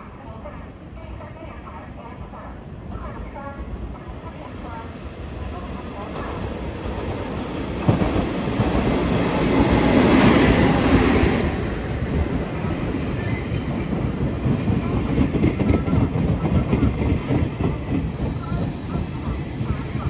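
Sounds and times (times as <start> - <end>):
train running past: 2.2 - 20.0.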